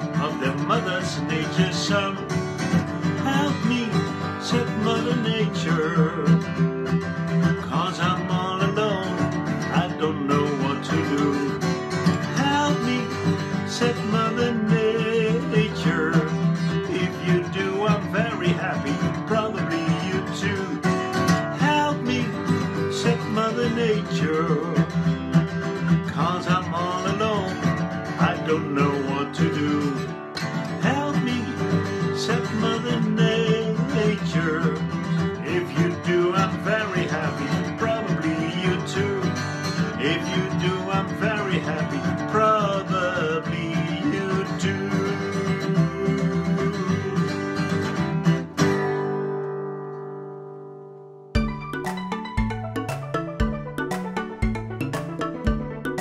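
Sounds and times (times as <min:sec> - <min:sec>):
man singing: 0:00.0 - 0:48.1
acoustic guitar strumming: 0:00.0 - 0:56.0.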